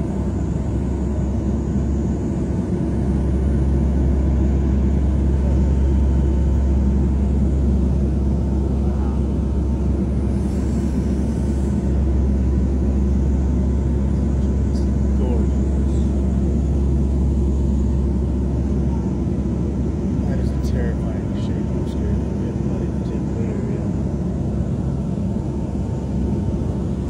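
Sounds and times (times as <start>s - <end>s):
aircraft cabin engine drone: 0.0s - 27.0s.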